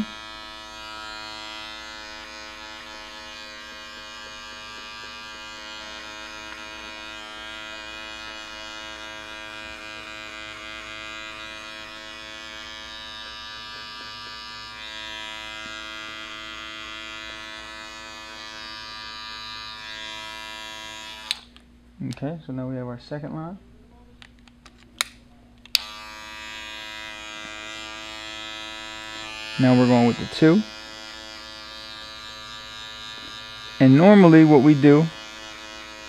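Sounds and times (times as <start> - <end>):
electric hair clipper buzzing: 0.0 - 21.6, 25.7 - 36.0.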